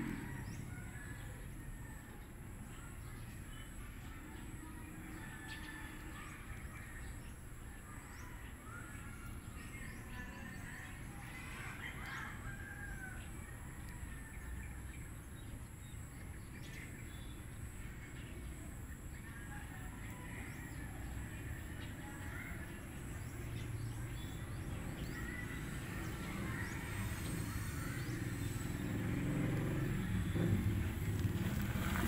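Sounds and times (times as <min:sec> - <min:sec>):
distant bird calls: 0:00.0 - 0:32.0.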